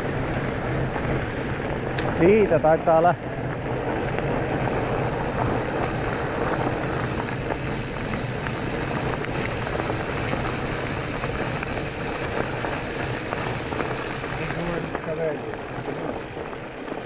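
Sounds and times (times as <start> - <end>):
wind rushing: 0.0 - 16.8
bike tyre noise on trail: 0.0 - 17.0.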